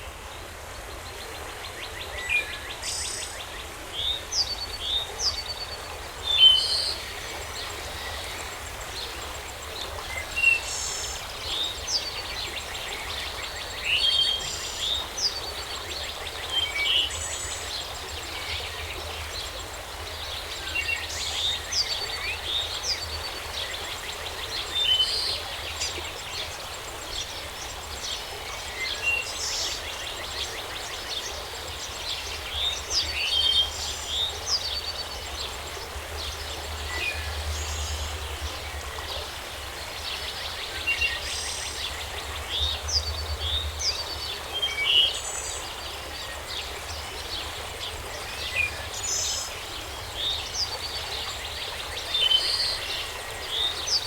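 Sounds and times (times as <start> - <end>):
steady background hiss: 0.0 - 54.0
forest birds chirping: 0.9 - 54.0.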